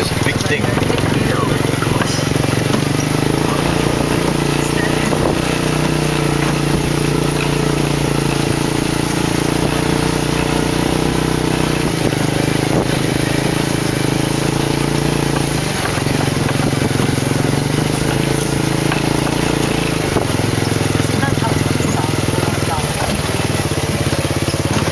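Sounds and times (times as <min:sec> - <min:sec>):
motorcycle engine running: 0:00.0 - 0:24.9
road and wind noise: 0:00.0 - 0:24.9.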